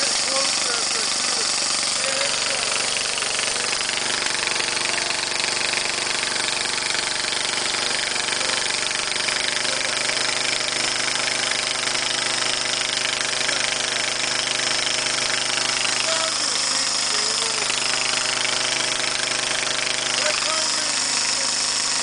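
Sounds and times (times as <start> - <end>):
mower engine with exhaust leak: 0.0 - 22.0.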